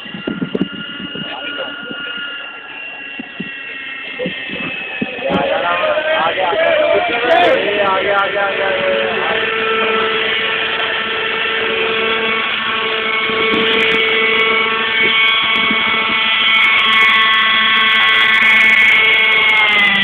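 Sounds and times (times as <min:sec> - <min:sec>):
model helicopter whine: 0:00.0 - 0:20.0.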